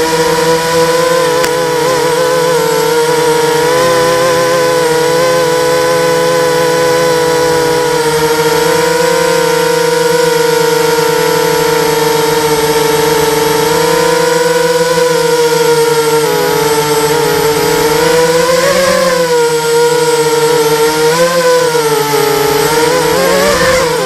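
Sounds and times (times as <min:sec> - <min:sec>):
drone motors and propellers whining: 0:00.0 - 0:24.0.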